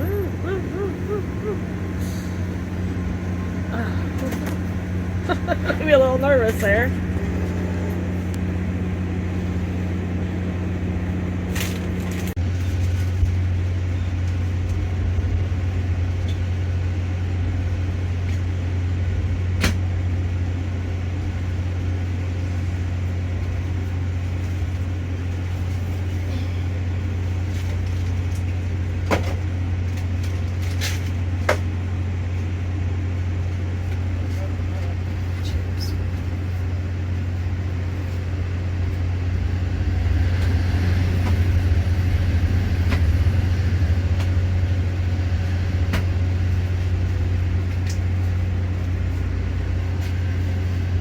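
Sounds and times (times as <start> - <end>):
low engine drone: 0.0 - 51.0.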